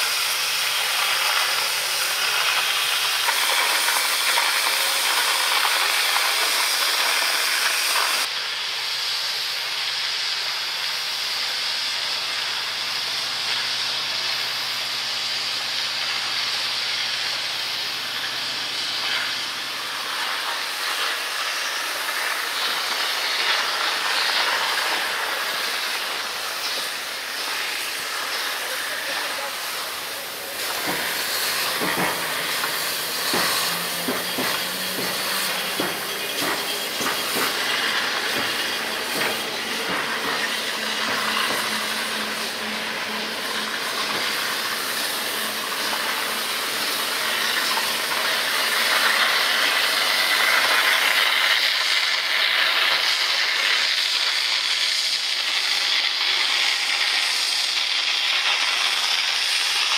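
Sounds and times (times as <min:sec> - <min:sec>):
locomotive steam hissing: 0:00.0 - 0:59.9.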